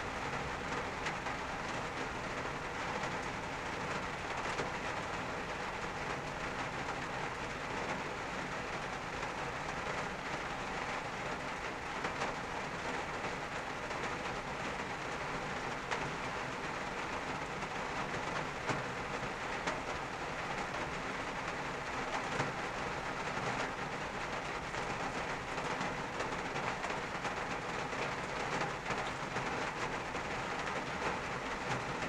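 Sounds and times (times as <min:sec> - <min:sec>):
rain on a car roof: 0:00.0 - 0:32.0.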